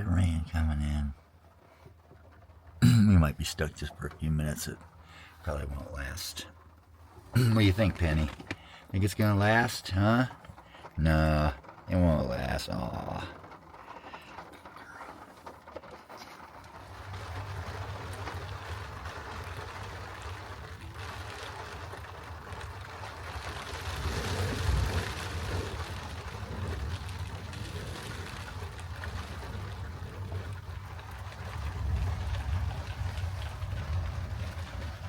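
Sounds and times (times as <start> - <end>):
rain on a roof: 0.0 - 35.0
steady low rumble: 2.6 - 35.0.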